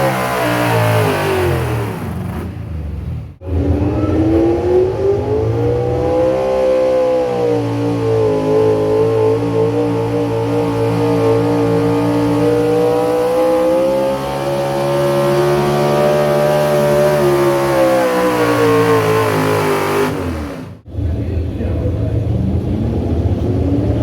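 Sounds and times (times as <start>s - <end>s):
tractor engine at high revs: 0.0s - 20.9s.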